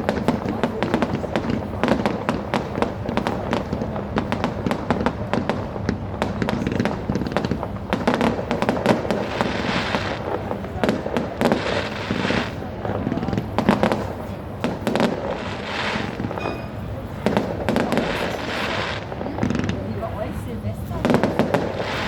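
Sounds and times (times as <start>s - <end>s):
firecracker and rocket bangs: 0.0s - 22.0s
hissing crackle of fireworks: 0.0s - 22.0s.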